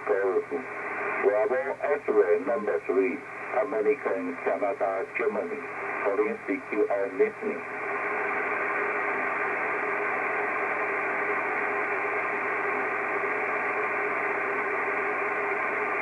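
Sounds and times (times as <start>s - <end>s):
faint steady tones: 0.0s - 16.0s
radio receiver static hiss: 0.0s - 16.0s.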